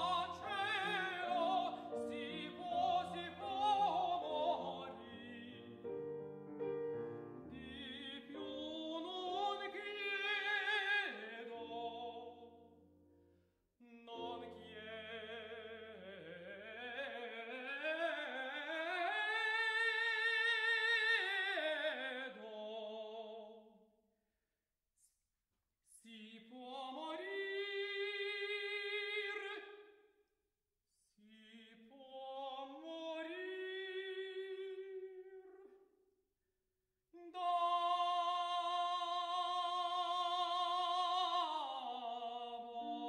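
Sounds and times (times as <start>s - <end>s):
operatic tenor singing: 0.0s - 6.3s, 7.4s - 12.6s, 13.8s - 23.6s, 26.1s - 29.8s, 31.3s - 35.7s, 37.2s - 43.0s.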